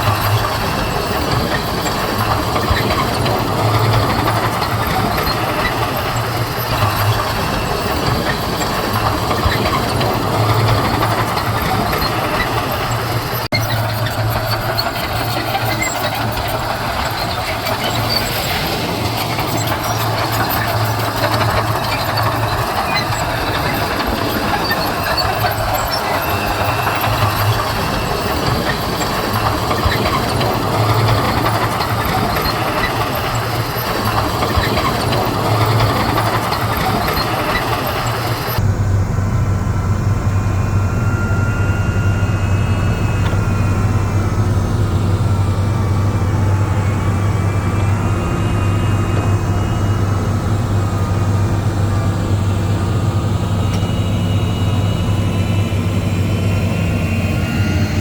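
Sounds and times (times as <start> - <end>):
heavy diesel machinery engine: 0.0 - 58.0.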